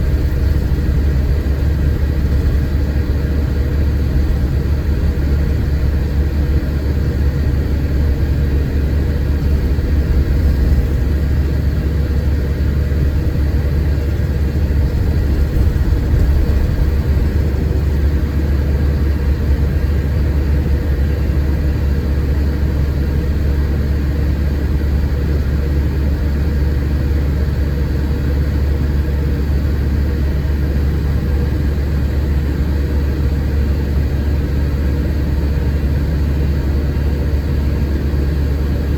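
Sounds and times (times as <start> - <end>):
diesel bus engine droning: 0.0 - 38.9.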